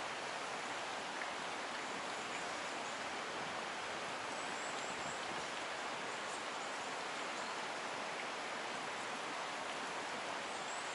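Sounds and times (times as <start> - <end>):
stream water rushing over rock: 0.0 - 10.9.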